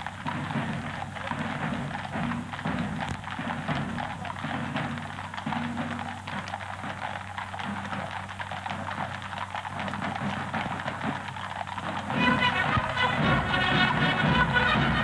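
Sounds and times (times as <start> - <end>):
film soundtrack hiss and crackle: 0.0 - 15.0
hooves clopping on pavement: 0.0 - 15.0
marching band playing: 0.0 - 15.0.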